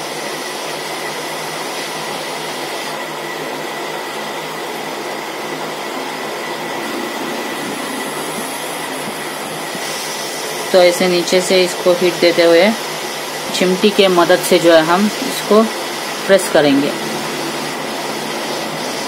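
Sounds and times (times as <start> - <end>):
faint high whine: 0.0 - 19.0
hot-air blower blowing: 0.0 - 19.0.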